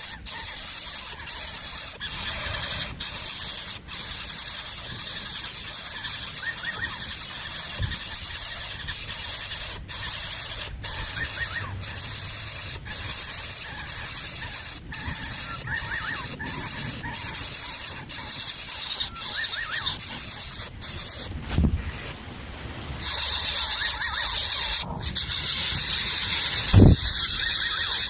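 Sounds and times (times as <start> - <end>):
small birds chirping: 0.0 - 22.2, 23.0 - 28.0
steady high hiss: 0.0 - 28.0.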